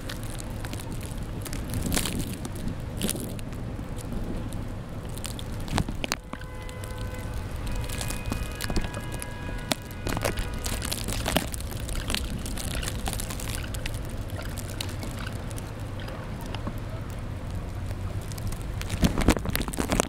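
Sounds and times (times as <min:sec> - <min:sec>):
crackles and clicks: 0:00.0 - 0:20.0
low wind rumble: 0:00.0 - 0:20.0.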